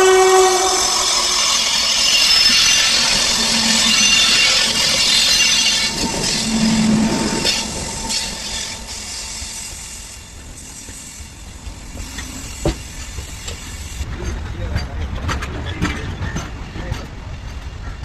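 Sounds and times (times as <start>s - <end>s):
train wagons rolling on track: 0.0s - 18.0s.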